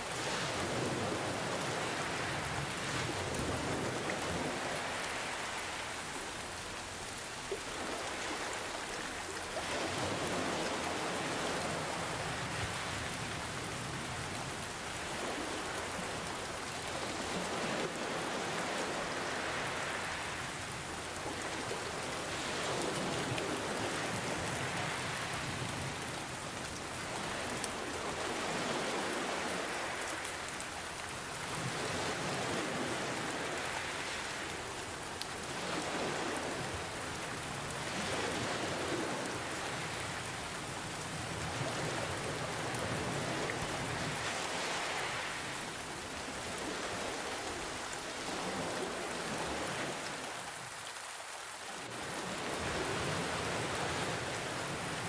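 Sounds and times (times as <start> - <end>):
ocean waves: 0.0 - 55.0
rain hiss: 0.0 - 55.0.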